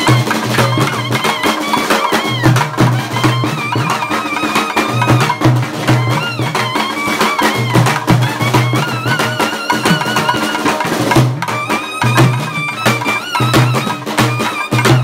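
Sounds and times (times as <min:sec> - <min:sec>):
barrel drum: 0:00.0 - 0:15.0
clarinet melody: 0:00.0 - 0:15.0
snare drum: 0:00.0 - 0:15.0.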